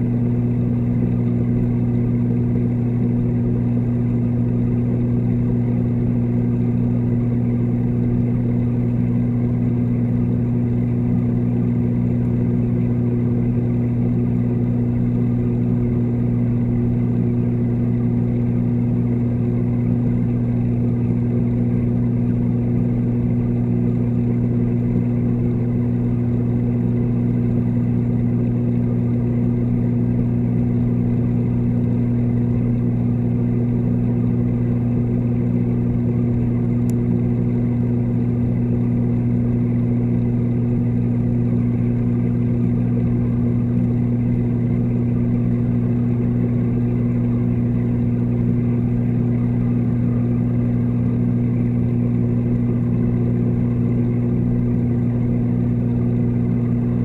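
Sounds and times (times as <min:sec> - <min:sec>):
pump hum underwater: 0:00.0 - 0:57.0.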